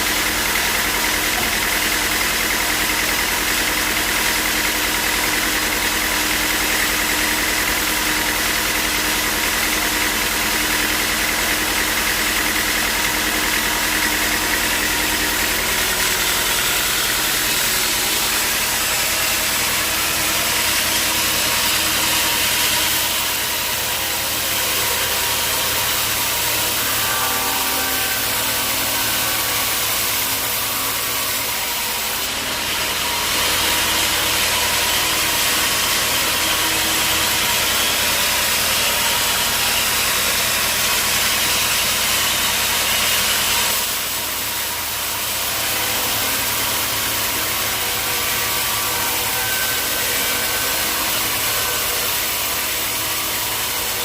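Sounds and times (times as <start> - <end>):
high machine whine: 0.0 - 54.0
sawmill machinery humming: 0.0 - 54.0.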